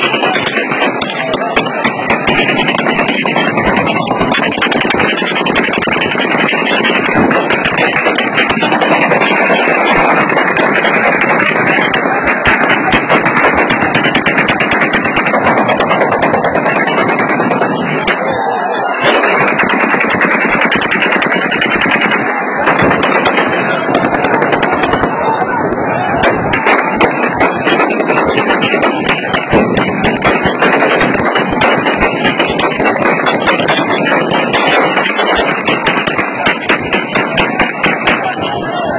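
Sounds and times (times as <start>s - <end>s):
automatic gunfire volleys: 0.0s - 18.3s, 18.9s - 25.3s, 26.1s - 38.5s
crowd din: 0.0s - 38.9s
gunshots: 0.0s - 38.9s.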